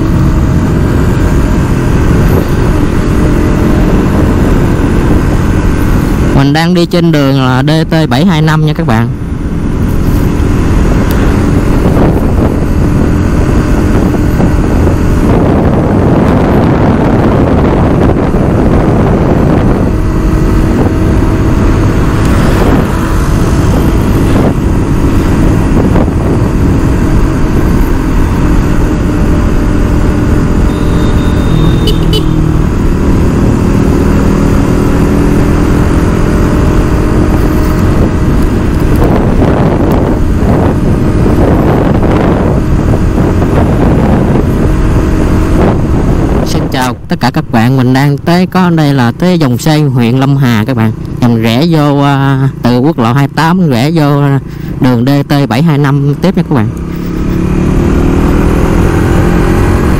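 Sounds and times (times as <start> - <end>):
road and wind noise: 0.0 - 59.9
vehicle engine hum: 0.0 - 59.9.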